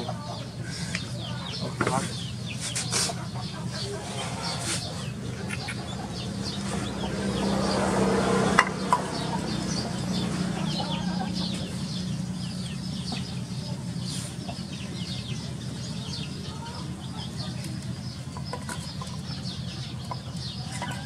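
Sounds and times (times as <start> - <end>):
chickens calling: 0.0 - 21.0.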